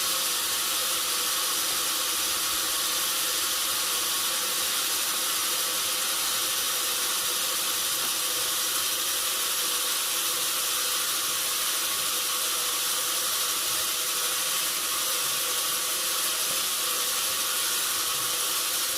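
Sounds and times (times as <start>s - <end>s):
steady hiss: 0.0s - 18.9s.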